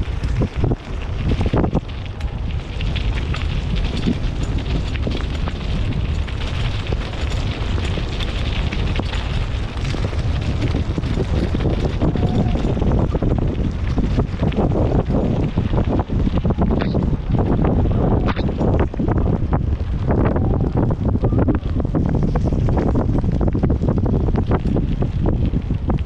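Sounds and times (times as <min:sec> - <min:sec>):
bike clicks and rattles: 0:00.0 - 0:26.0
wind buffeting microphone: 0:00.0 - 0:26.0.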